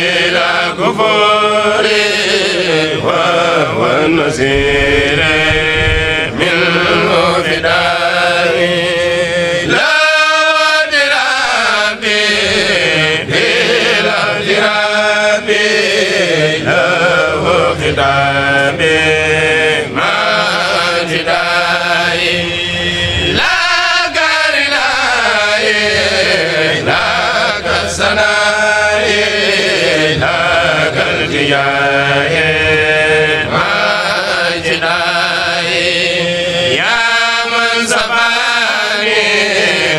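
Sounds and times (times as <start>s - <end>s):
group of singers chanting: 0.0s - 39.9s.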